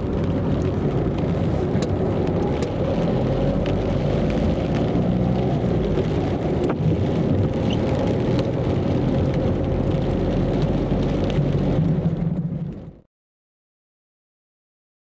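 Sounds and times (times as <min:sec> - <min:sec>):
raindrops tapping on windscreen: 0:00.0 - 0:13.0
car engine and tyre noise: 0:00.0 - 0:13.1.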